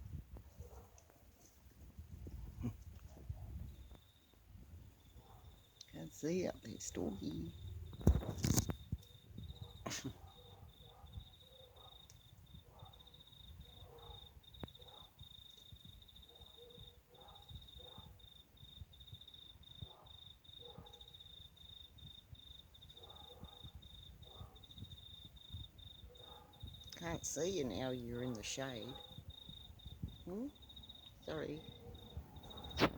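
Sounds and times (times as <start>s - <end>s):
cricket trilling: 3.7s - 32.9s.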